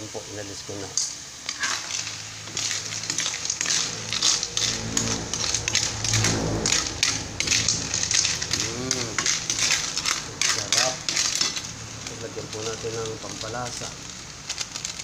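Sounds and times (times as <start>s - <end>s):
low steady hum: 1.2s - 15.0s
shells clattering in metal wok: 1.4s - 6.0s, 6.6s - 15.0s.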